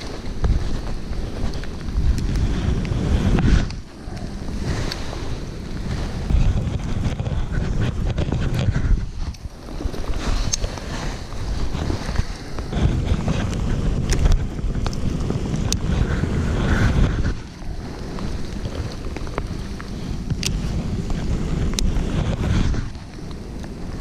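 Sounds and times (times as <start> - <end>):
rain hissing: 0.0 - 24.0
wind buffeting microphone: 0.0 - 24.0.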